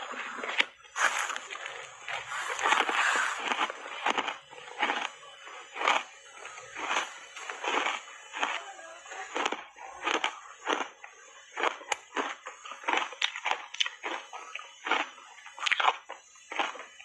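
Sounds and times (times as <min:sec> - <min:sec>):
soft crunching chewing: 0:00.0 - 0:17.0.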